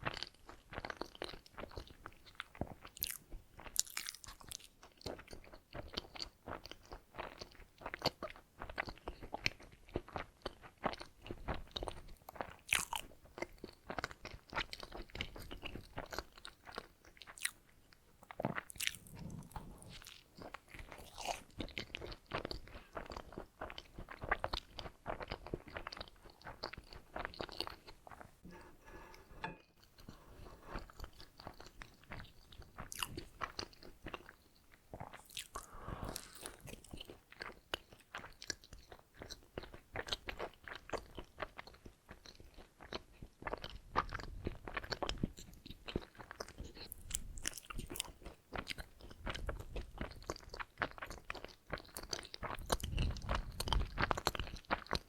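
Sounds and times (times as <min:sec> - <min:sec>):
chewing and biting donuts: 0:00.0 - 0:28.4, 0:30.8 - 0:55.0.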